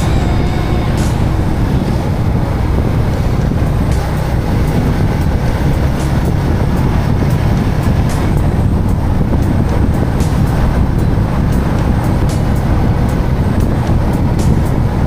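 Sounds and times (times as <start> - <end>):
motorcycle engine rumble: 0.0 - 15.0
wind buffeting microphone: 0.0 - 15.0.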